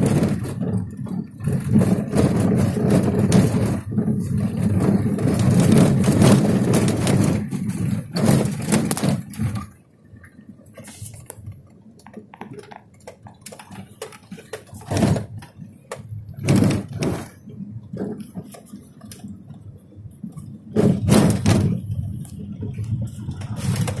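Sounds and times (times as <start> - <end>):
wind and handling noise surges: 0.0 - 24.0.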